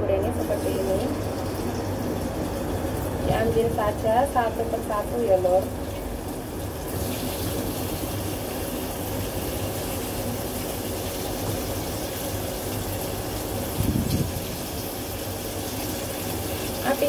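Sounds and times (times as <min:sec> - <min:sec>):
food sizzling in a wok: 0:00.2 - 0:17.0.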